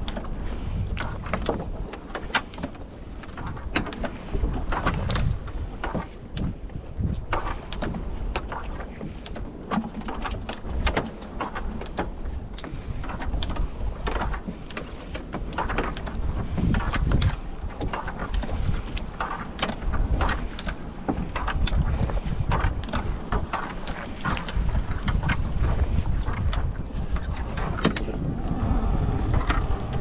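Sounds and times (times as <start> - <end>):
continuous low rumble: 0.0 - 30.0.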